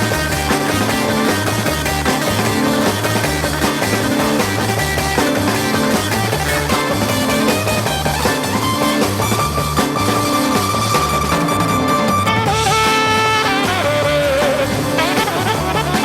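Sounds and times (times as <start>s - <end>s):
electric guitar: 0.0s - 16.0s
repeating bass line: 0.0s - 16.0s.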